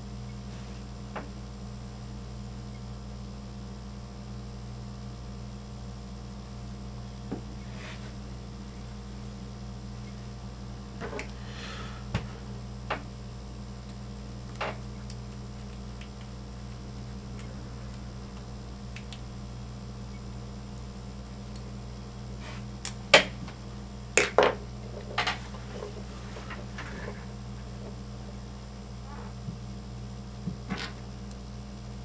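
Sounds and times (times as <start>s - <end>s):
low hum: 6.0s - 32.0s.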